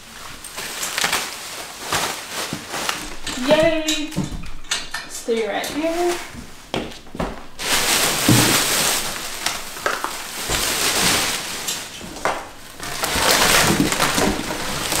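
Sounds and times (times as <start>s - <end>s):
plastic wrap crinkling: 0.0s - 15.0s.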